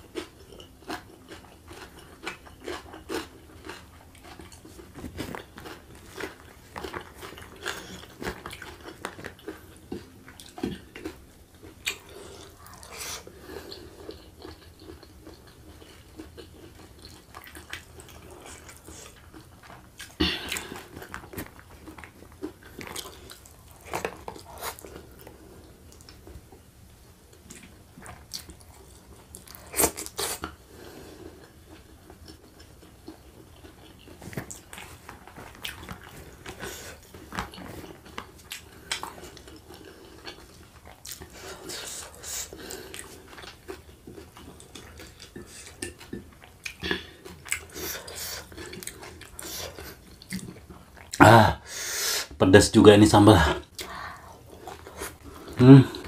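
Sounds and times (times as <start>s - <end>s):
person chewing food: 0.0s - 51.3s, 53.6s - 56.0s.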